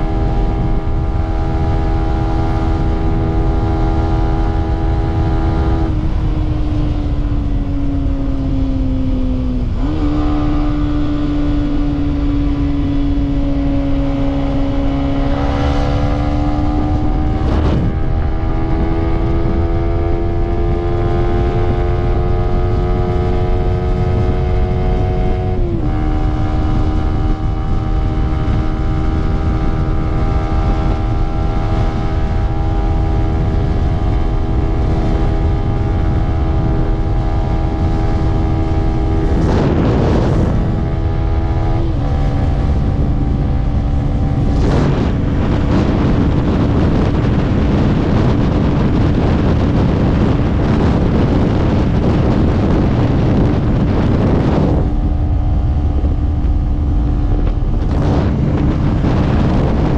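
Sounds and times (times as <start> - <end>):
heavy wind noise: 0.0 - 59.9
motorcycle engine accelerating: 0.0 - 59.9.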